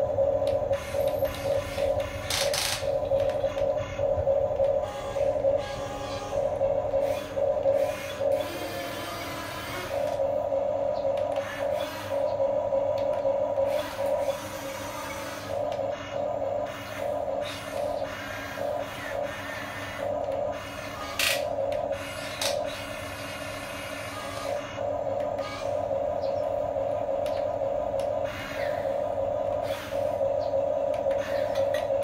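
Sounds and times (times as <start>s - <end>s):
electric gear motors whining: 0.0s - 32.0s.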